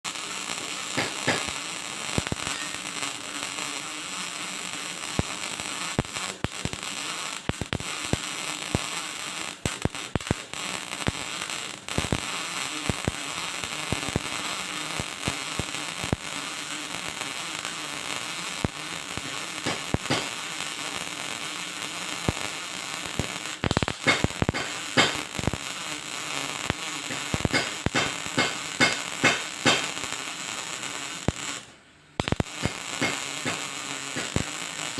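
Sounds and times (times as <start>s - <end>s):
welding arc crackling and hissing: 0.0s - 34.9s
welding arc pops: 0.0s - 34.9s.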